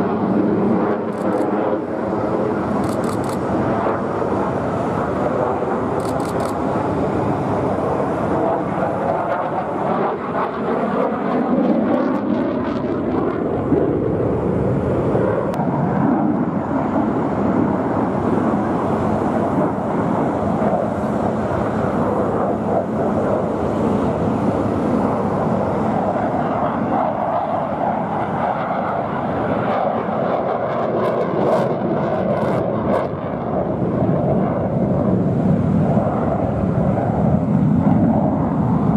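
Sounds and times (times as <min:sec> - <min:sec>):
jet engine roaring: 0:00.0 - 0:38.9.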